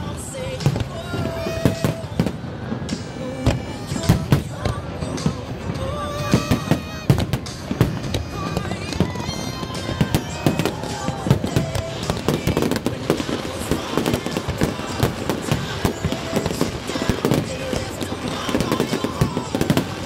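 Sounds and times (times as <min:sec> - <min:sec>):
fireworks bangs and crackles: 0:00.0 - 0:20.0
music playing: 0:00.0 - 0:20.0.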